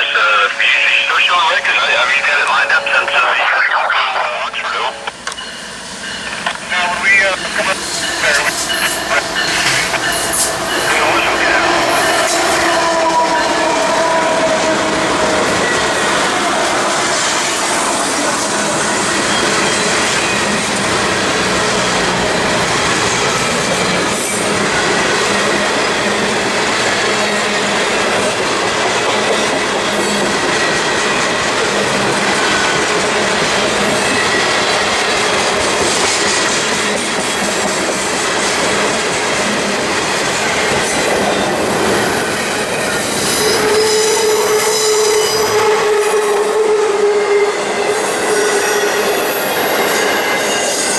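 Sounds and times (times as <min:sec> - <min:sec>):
train rumble and clatter: 0:04.9 - 0:50.9.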